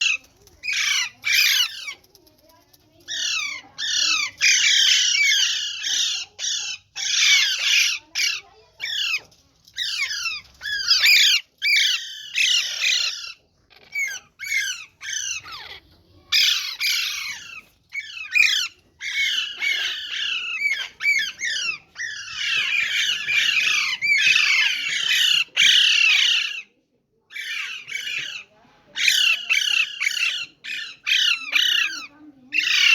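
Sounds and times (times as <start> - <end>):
parrots squawking: 0.0 - 2.1, 2.9 - 32.9.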